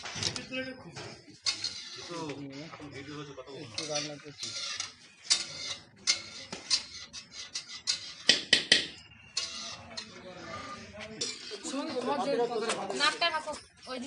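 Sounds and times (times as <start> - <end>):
ladles clinking on metal pots: 0.0 - 14.0.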